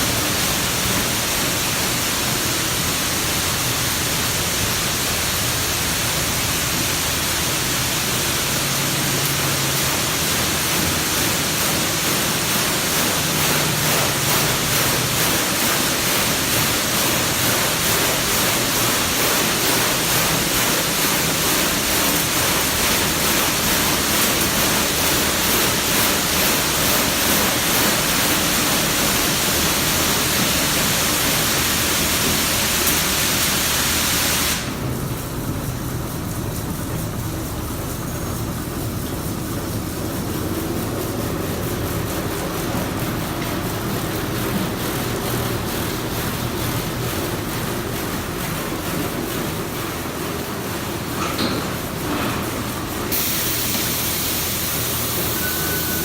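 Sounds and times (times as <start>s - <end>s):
car wash spraying water: 0.0s - 56.0s.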